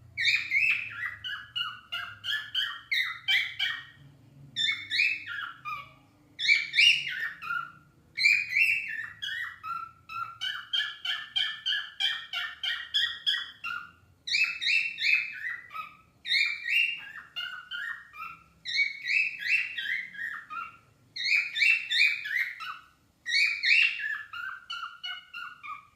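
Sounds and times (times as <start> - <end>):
cockatiels chirping whistles: 0.2 - 4.0, 4.6 - 25.9.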